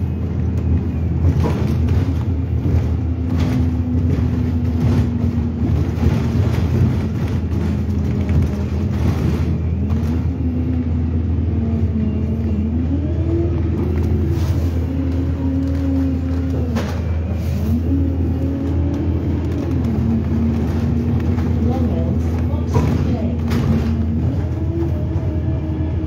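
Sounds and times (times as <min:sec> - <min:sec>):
bus engine rumbling: 0:00.0 - 0:26.0.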